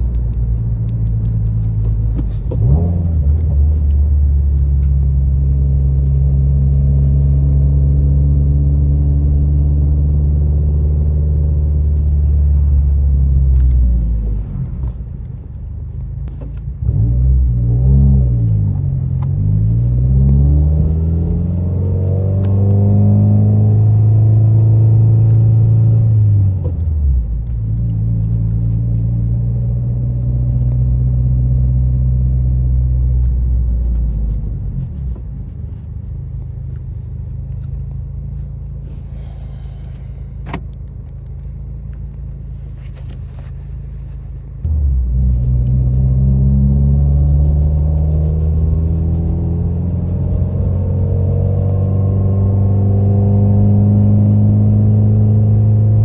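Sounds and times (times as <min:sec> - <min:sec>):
car engine droning while driving: 0:00.0 - 0:56.0.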